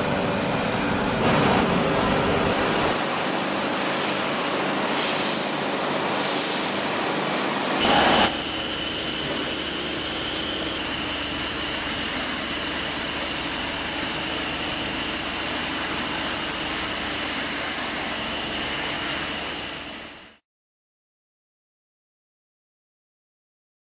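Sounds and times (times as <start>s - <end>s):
industrial vacuum cleaner running: 0.0s - 20.4s.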